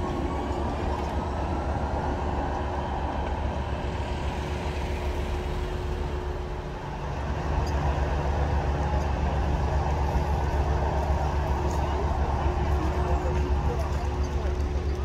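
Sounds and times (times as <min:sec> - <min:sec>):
tram rumbling on track: 0:00.0 - 0:15.0.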